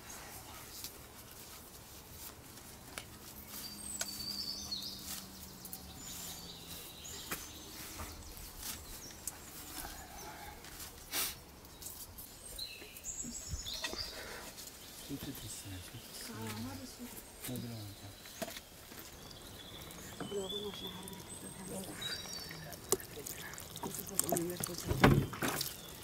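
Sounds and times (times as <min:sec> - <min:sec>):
hands sorting cherries: 0:00.4 - 0:26.0
birds chirping: 0:02.5 - 0:26.0.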